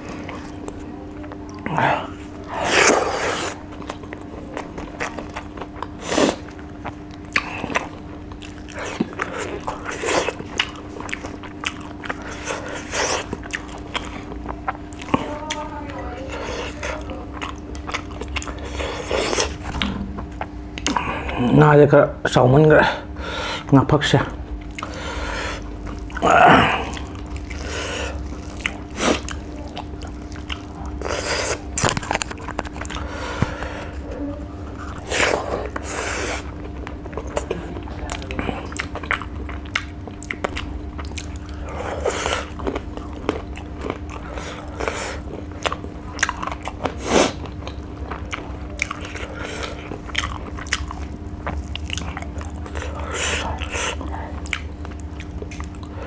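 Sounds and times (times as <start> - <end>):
chewing and lip-smacking: 0.0 - 21.4, 24.6 - 56.0
steady low hum: 0.0 - 56.0.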